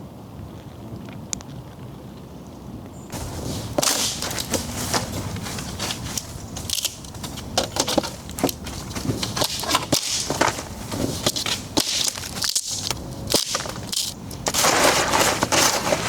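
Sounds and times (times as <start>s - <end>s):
rustling: 3.1s - 16.0s.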